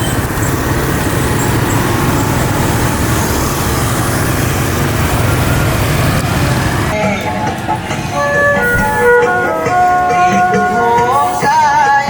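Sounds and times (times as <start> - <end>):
vehicle engine running close by: 0.0 - 9.9
road traffic: 0.0 - 12.0.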